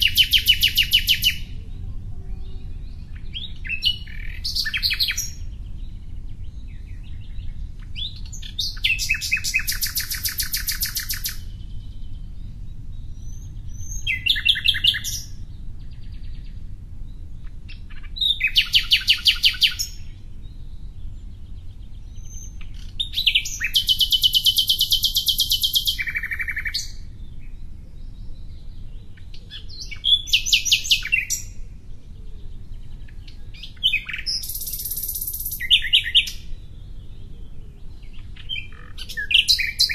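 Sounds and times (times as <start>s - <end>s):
low background rumble: 0.0s - 39.9s
songbird trilling: 0.0s - 39.9s.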